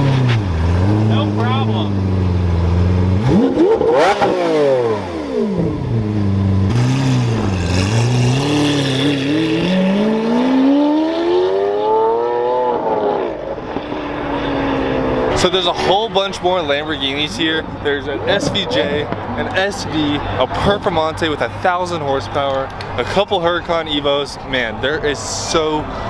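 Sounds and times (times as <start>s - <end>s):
sports car engine revving: 0.0s - 21.6s
car pulling away: 0.0s - 23.8s.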